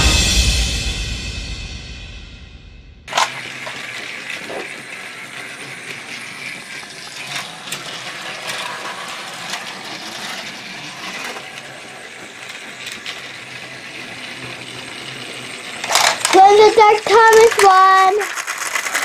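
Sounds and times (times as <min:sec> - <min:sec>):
toy trains rattling: 0:03.1 - 0:19.0.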